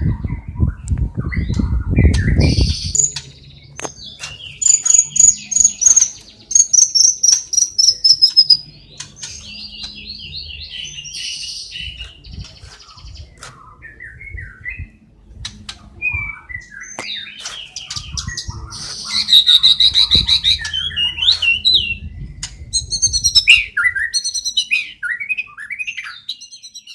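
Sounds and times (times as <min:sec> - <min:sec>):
songbird chirps whistles and trills: 0:00.2 - 0:26.9.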